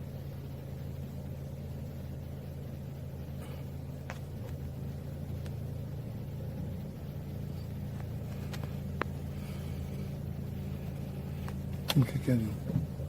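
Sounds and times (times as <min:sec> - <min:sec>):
car engine humming from inside: 0:00.0 - 0:13.0.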